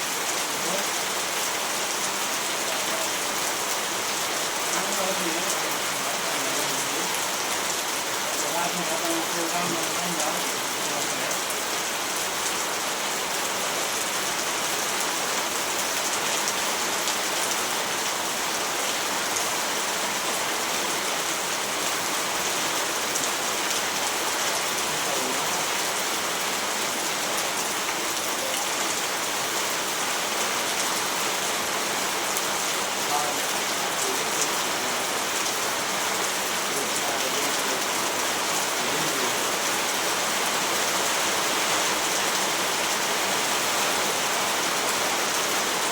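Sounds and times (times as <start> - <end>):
rain hissing: 0.0 - 45.9
raindrops pattering on surface: 0.2 - 45.9.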